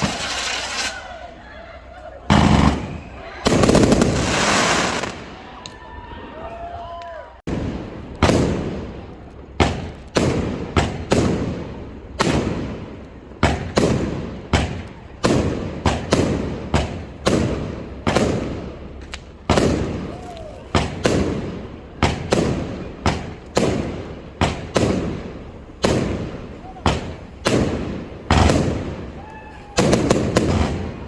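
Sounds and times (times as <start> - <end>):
fireworks bursting: 0.0 - 1.4, 2.2 - 5.8, 7.4 - 31.0.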